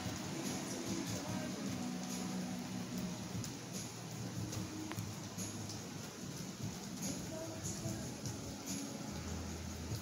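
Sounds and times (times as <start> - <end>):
steady rain hiss: 0.0 - 10.0.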